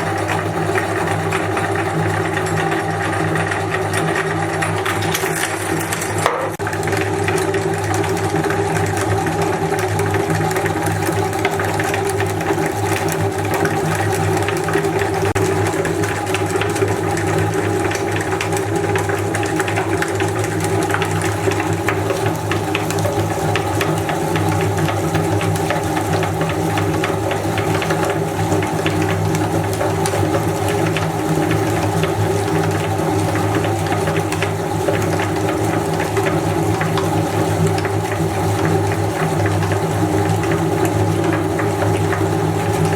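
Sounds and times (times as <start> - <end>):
clicks and crackles of grinding: 0.0 - 42.9
electric meat grinder humming: 0.0 - 42.9.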